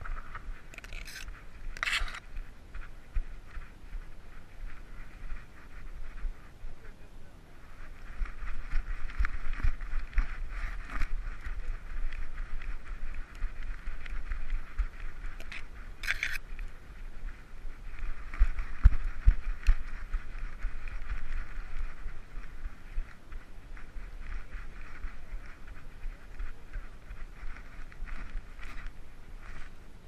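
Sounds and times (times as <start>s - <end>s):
camera rubbing and rustling: 0.0s - 6.6s, 7.6s - 29.8s
low thumps of dog's strides: 0.0s - 7.0s, 7.6s - 29.8s.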